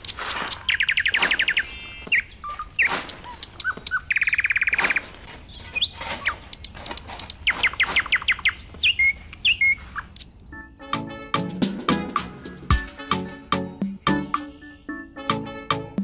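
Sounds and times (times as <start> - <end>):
birds chirping and trilling: 0.0 - 10.6, 11.4 - 16.0.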